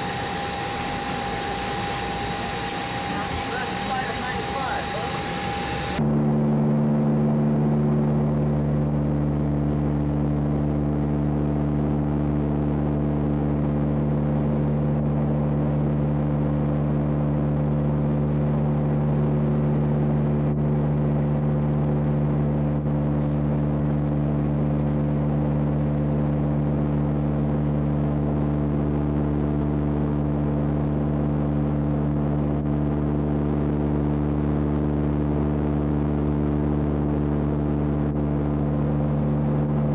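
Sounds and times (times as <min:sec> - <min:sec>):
airliner engines droning in cabin: 0:00.0 - 0:39.9.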